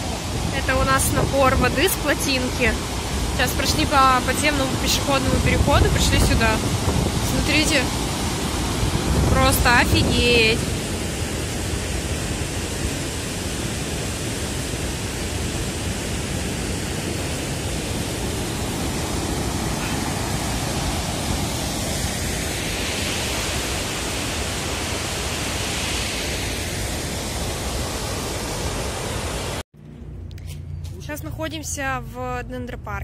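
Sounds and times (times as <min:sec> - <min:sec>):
water rushing from dam sluice: 0:00.0 - 0:29.6.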